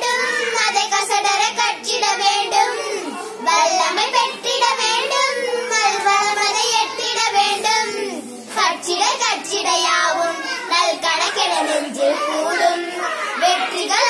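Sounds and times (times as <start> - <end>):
girls singing unaccompanied: 0.0 - 14.0.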